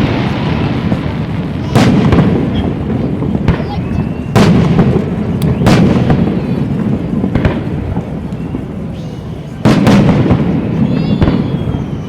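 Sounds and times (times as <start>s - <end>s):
fireworks bursting with sharp bangs: 0.0s - 12.0s
low rumble of echoing explosions: 0.0s - 12.0s.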